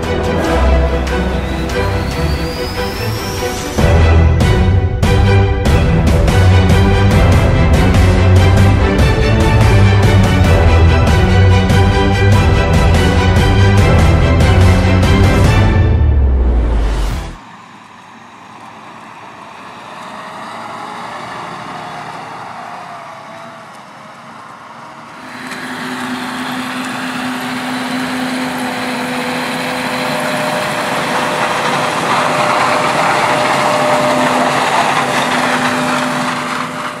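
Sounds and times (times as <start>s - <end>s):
combine harvester running: 0.0s - 37.0s
tractor engine: 0.0s - 37.0s.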